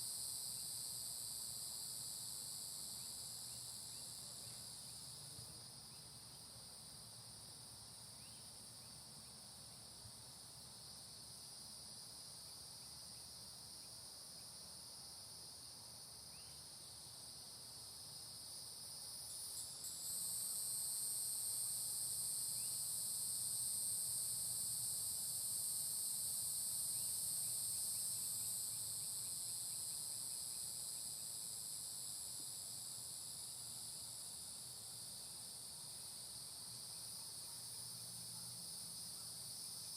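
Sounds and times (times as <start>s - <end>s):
tree insects buzzing: 0.0s - 39.9s.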